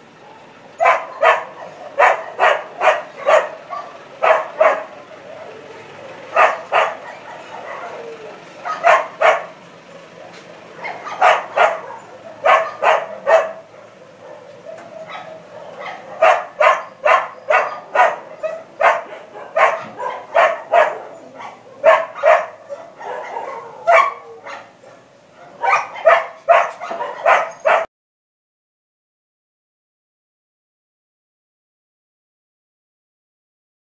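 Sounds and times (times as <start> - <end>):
dogs barking: 0.2 - 27.9.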